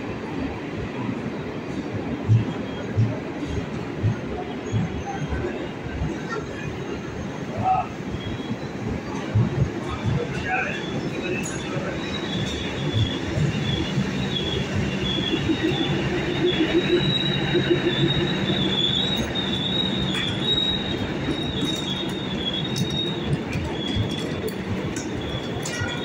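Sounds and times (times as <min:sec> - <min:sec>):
rumble of train coaches: 0:00.0 - 0:26.0
train engine humming: 0:00.0 - 0:26.0
train wheels squealing: 0:01.7 - 0:26.0.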